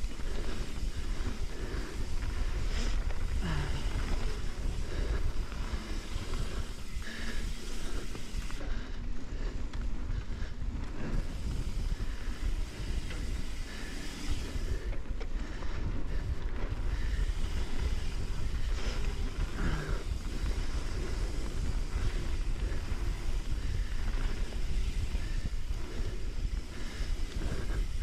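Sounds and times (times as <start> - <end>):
bike tyres rolling on dirt: 0.0 - 28.0.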